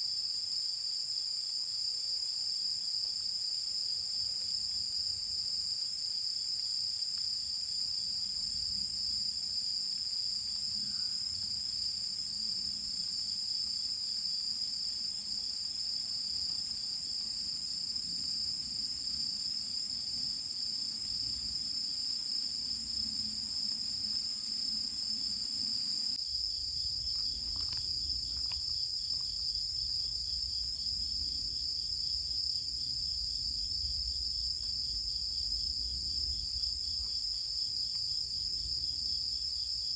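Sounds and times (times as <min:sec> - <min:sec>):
crickets and insects trilling: 0:02.5 - 0:39.9.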